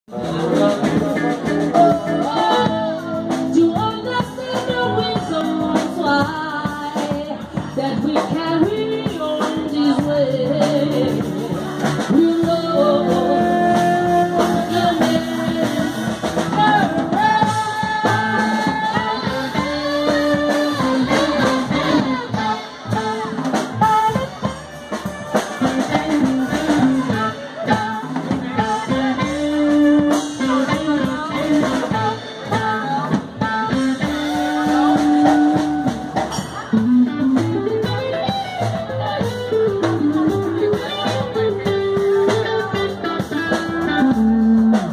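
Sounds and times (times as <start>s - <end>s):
drums: 0.0s - 44.9s
guitar: 0.0s - 44.9s
person singing: 0.1s - 44.9s.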